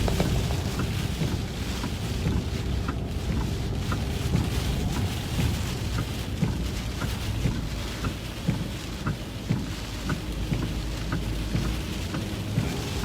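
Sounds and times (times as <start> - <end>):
road and engine rumble: 0.0 - 13.0
wind and rain on vehicle: 0.0 - 13.0.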